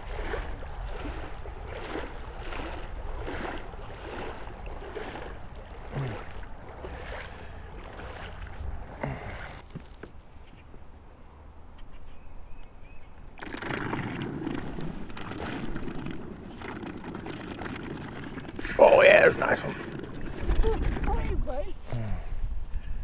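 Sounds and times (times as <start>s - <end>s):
water sloshing rhythmically: 0.0s - 10.9s, 13.1s - 21.9s.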